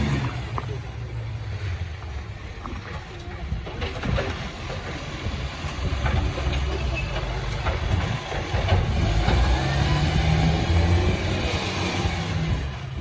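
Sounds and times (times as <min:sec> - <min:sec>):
diesel engine running at low revs: 0:00.0 - 0:13.0
knocks and clatter: 0:02.0 - 0:13.0.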